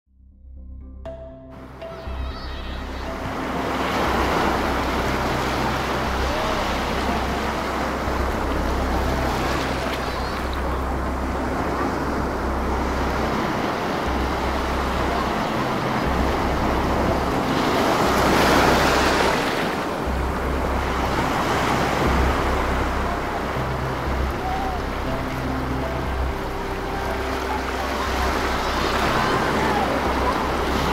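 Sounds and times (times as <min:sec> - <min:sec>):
ocean surf breaking: 0:01.7 - 0:30.9.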